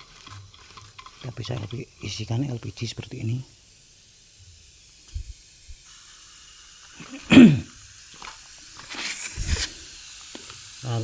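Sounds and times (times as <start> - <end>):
gas hissing through a hose: 0.0 - 11.0.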